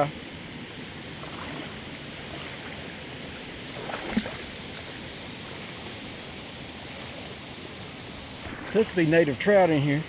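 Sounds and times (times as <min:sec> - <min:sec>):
creek water running: 0:00.0 - 0:10.0.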